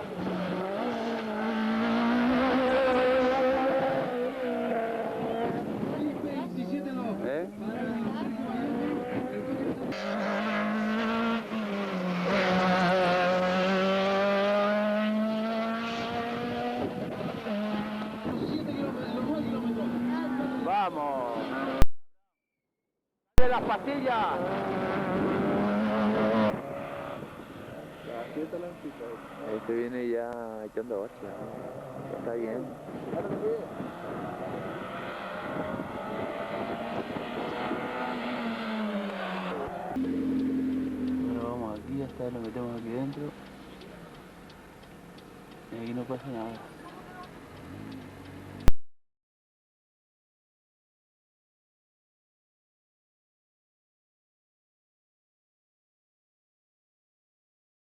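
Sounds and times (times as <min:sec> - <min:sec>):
car engine at high revs: 0:00.0 - 0:21.9, 0:23.4 - 0:48.8.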